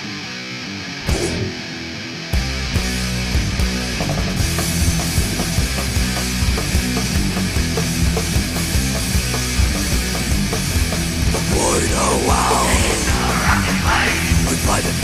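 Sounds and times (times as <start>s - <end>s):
distorted guitars: 0.0s - 15.0s.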